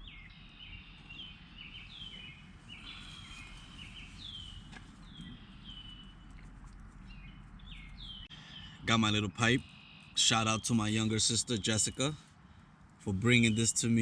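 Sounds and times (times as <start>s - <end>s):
faint steady background noise: 0.0s - 14.0s
songbirds chirping: 0.0s - 14.0s.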